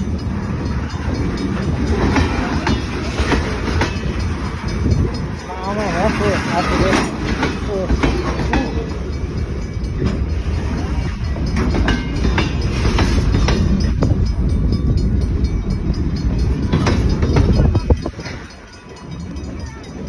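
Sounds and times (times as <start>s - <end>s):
freight train rumble: 0.0s - 20.0s
wheels clattering over rail joints: 0.0s - 20.0s.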